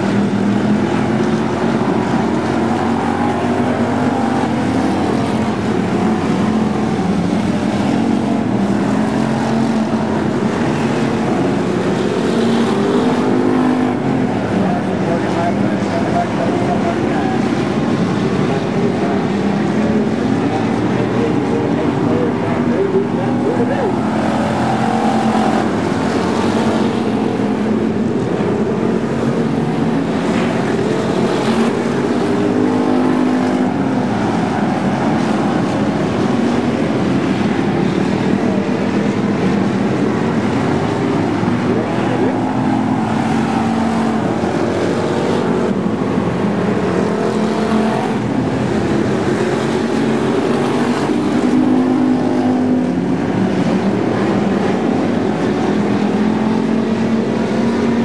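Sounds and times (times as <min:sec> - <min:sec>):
race car engines: 0:00.0 - 0:58.0.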